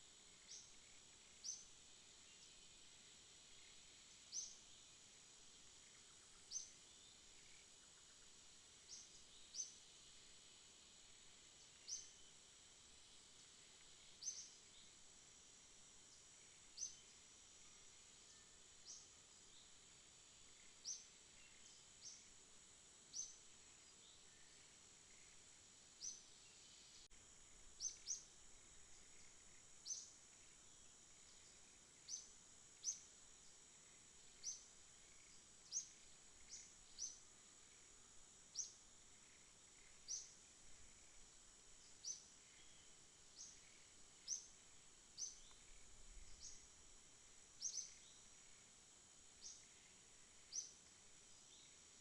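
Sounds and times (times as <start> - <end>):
insect trill: 0.0 - 52.0.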